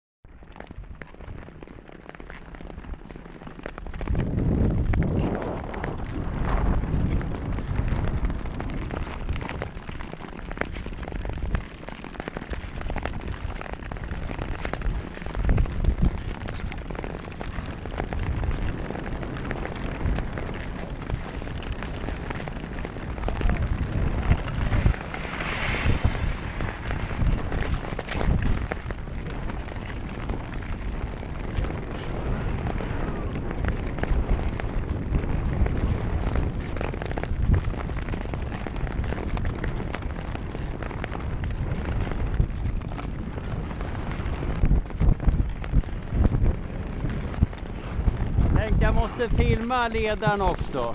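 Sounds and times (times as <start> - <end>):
skates scraping on ice: 0.4 - 50.9
wind buffeting microphone: 0.4 - 50.9.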